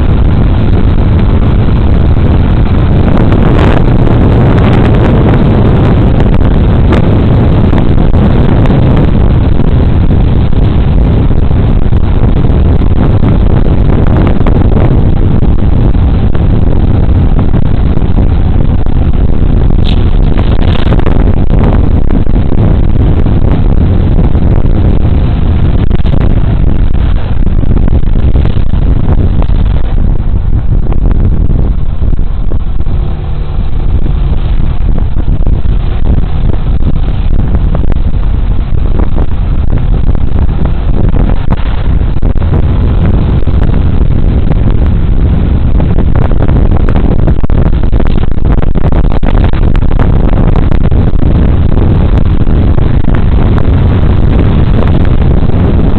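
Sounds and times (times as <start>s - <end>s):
road noise: 0.0s - 55.9s
wind buffeting microphone: 0.0s - 55.9s.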